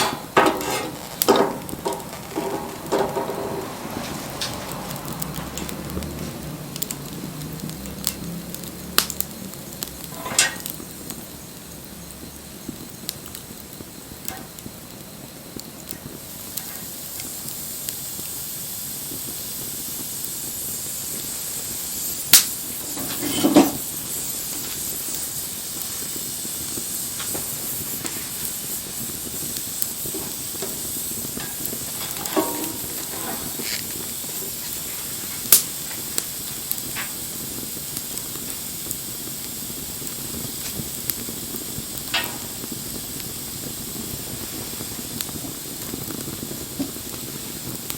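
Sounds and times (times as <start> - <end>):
burning wood crackling pops: 0.0 - 47.9
wood fire hissing: 0.0 - 47.9.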